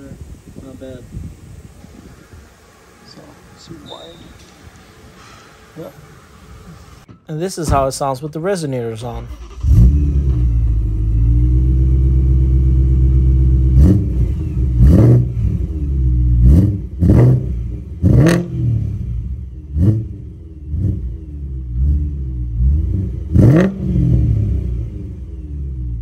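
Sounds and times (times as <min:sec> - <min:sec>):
car engine idling and revving: 0:00.0 - 0:07.1, 0:09.2 - 0:26.0.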